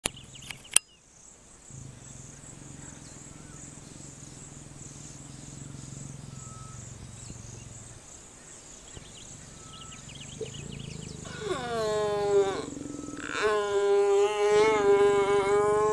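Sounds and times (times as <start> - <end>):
insects chirring: 0.0 - 15.9
lions growling: 1.7 - 15.9.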